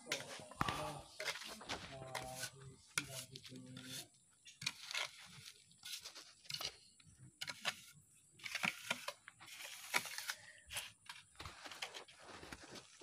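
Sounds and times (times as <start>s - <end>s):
gritty mortar scraping: 0.0s - 13.0s.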